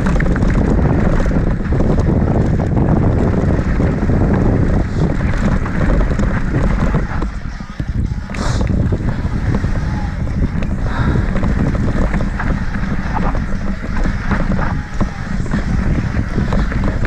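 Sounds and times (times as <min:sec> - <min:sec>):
bike rattling over bumps: 0:00.0 - 0:17.0
tyres crunching over dirt and rock: 0:00.0 - 0:17.0
wind buffeting microphone: 0:00.0 - 0:17.0.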